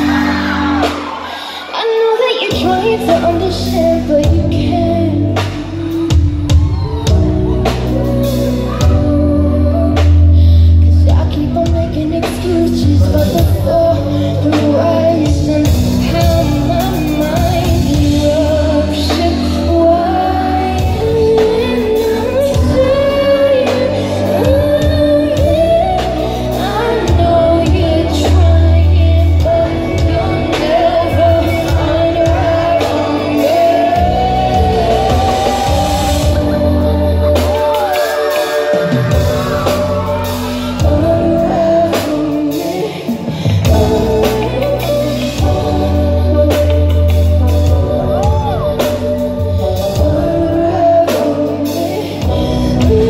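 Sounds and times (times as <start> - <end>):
band playing with deep bass: 0.0 - 53.0
woman singing: 0.0 - 53.0.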